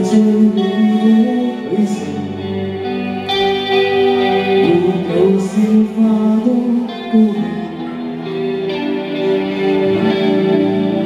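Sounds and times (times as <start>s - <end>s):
bass guitar: 0.0s - 11.0s
electric guitars: 0.0s - 11.0s.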